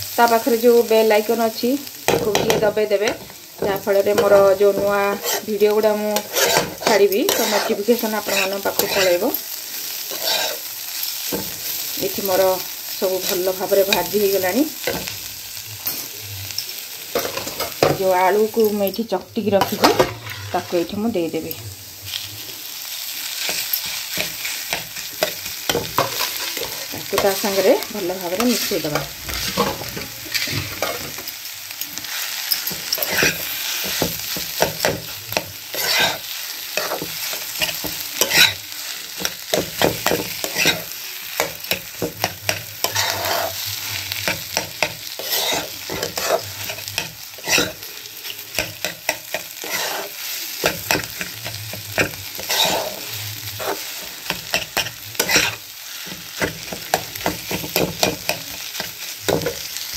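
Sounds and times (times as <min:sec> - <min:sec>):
frying hiss: 0:00.0 - 0:59.9
metal spatula scraping a pan: 0:02.1 - 0:12.6, 0:15.8 - 0:22.3, 0:23.2 - 0:31.4, 0:32.0 - 0:59.8.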